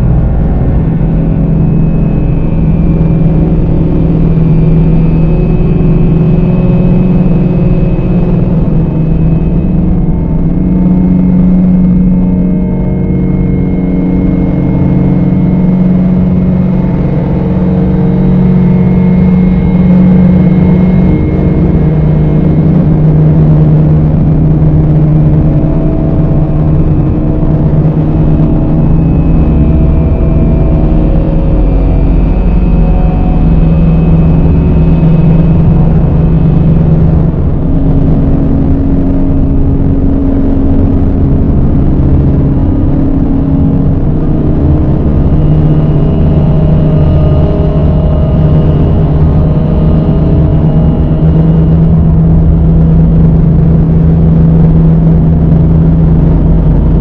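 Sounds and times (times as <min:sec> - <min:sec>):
dark ambient drone music: 0:00.0 - 0:57.0.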